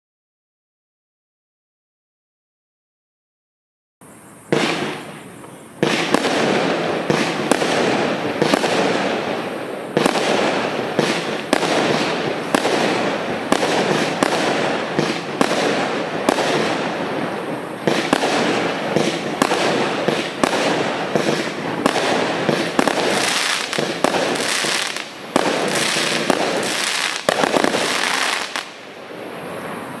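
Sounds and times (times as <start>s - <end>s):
firework cake shots and bursts: 4.5s - 30.0s.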